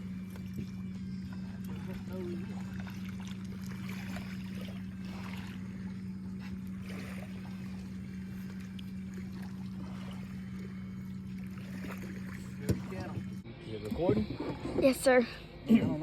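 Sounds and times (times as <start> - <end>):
faint water noise: 0.0 - 15.3
boat motor humming: 0.0 - 16.0.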